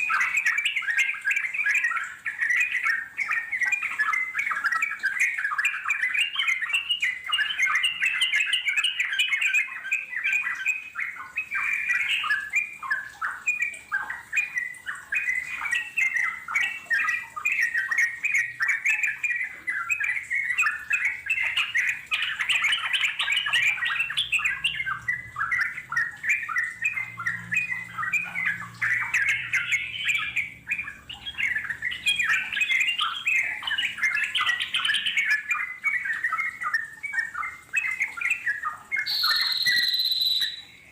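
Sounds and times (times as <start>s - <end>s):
bird chattering calls: 7.4s - 40.9s.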